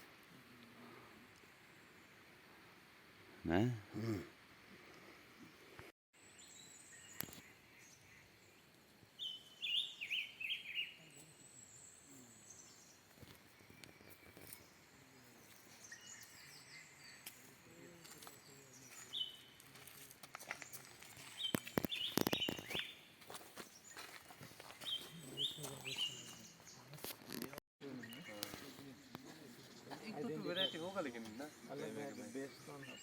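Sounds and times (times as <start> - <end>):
birds chirping: 5.3 - 33.0.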